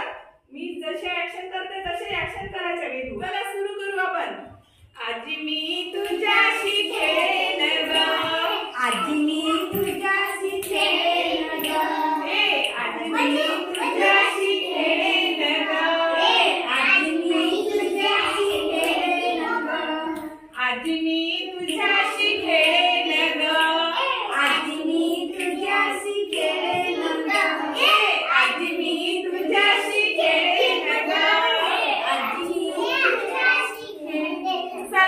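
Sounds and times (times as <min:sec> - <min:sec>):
woman and children singing: 0:04.9 - 0:35.0.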